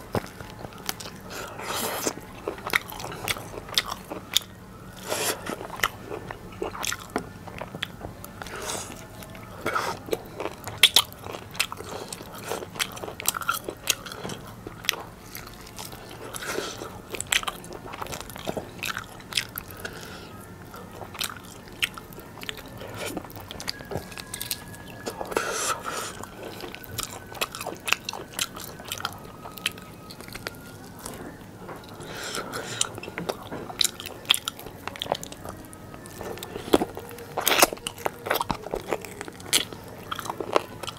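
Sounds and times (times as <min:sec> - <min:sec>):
biting and chewing meat: 0:00.0 - 0:40.9.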